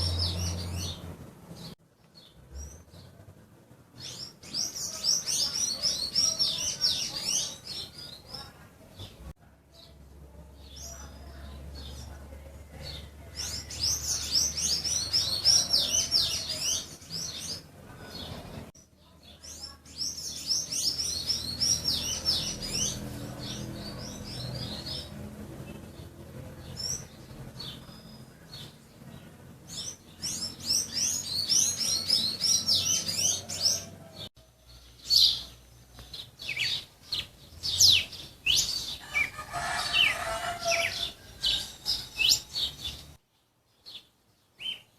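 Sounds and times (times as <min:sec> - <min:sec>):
songbird chirping: 0:00.0 - 0:44.9.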